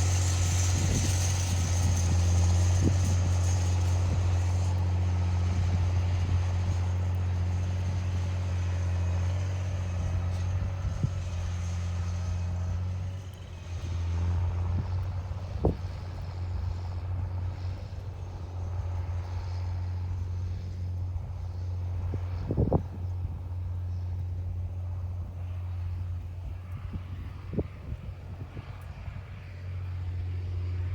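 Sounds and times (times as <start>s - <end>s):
tractor diesel engine droning: 0.0s - 30.9s.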